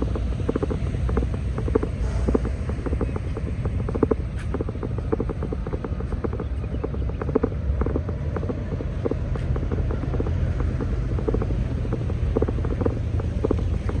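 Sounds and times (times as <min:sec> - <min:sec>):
raindrops tapping near microphone: 0:00.0 - 0:14.0
wind buffeting microphone: 0:00.0 - 0:14.0.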